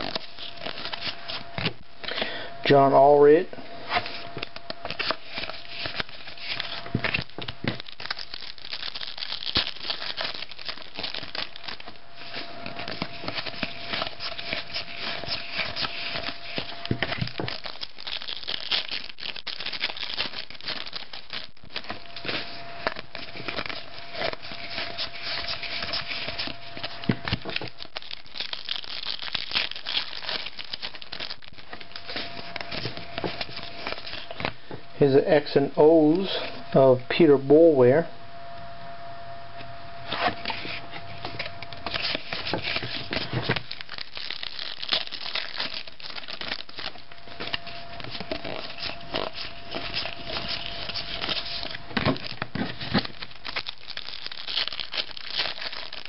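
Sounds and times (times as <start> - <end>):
foil wrapper crinkling and tearing: 0.0 - 2.2, 4.0 - 34.6, 40.2 - 56.0.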